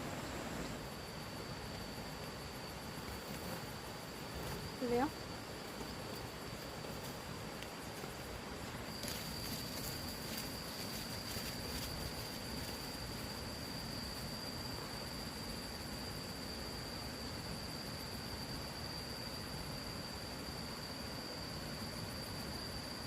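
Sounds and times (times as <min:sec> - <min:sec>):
insect drone: 0:00.0 - 0:23.0
outdoor ambience hiss: 0:00.0 - 0:23.0.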